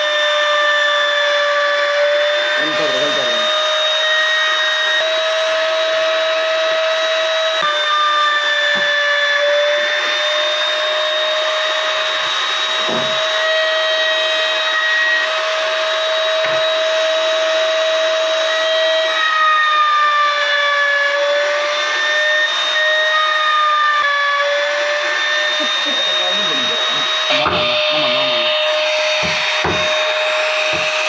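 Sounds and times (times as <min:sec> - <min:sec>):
router high whine: 0:00.0 - 0:31.0.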